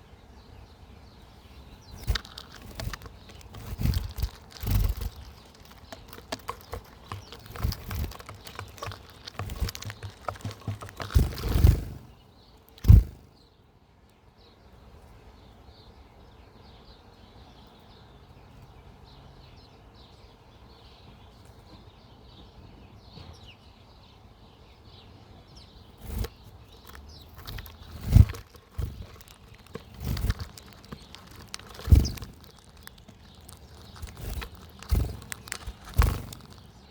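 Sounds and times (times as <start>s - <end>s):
small birds chirping faintly: 0.0s - 13.6s, 14.3s - 36.9s.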